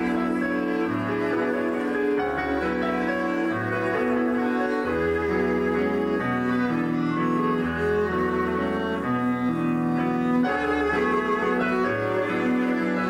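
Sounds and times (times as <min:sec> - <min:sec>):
bowed strings sustained notes: 0:00.0 - 0:13.0.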